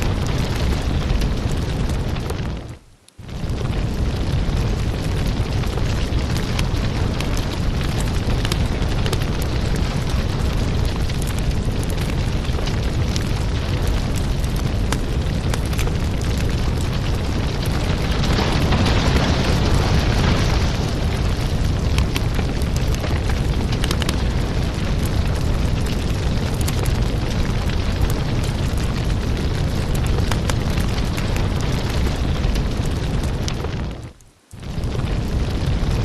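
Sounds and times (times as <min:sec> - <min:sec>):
firewood burning with crackles: 0:00.0 - 0:36.0.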